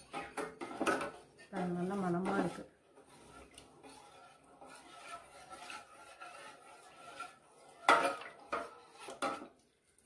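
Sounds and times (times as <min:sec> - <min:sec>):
ladle scraping pot: 0:00.0 - 0:09.6.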